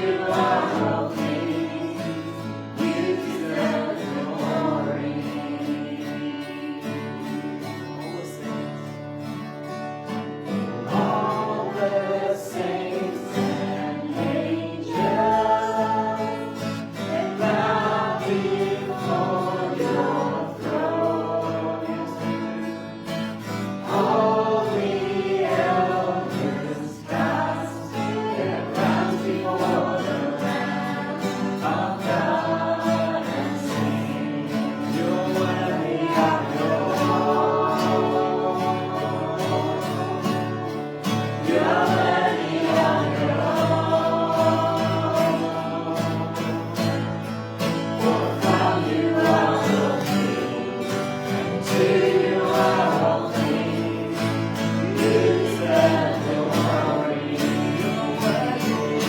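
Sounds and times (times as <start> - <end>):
congregation singing: 0.0 - 59.0
guitar accompaniment: 0.0 - 59.0.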